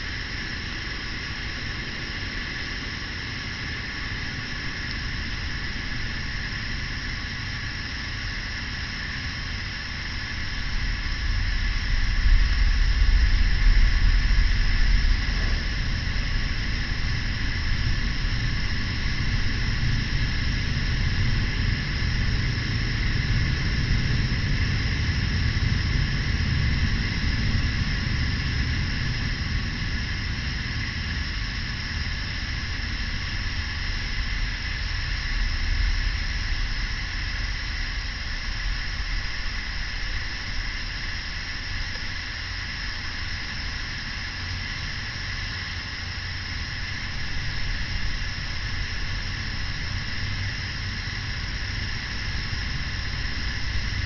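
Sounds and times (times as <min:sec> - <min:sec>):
campfire burning: 0:00.1 - 0:54.0.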